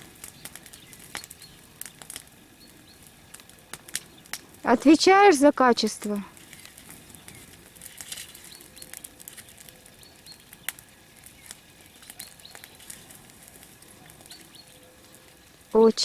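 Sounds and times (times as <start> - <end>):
sharp snaps and pops: 0.0 - 15.8
bonfire crackling: 0.0 - 16.0
fire hiss: 0.0 - 16.0.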